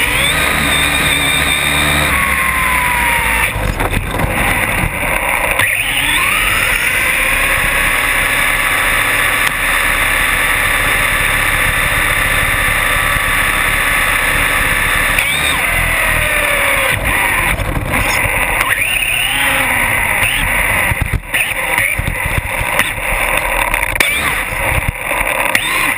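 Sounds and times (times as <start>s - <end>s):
electric motor whine: 0.0s - 25.9s
tyres on asphalt: 0.0s - 25.9s.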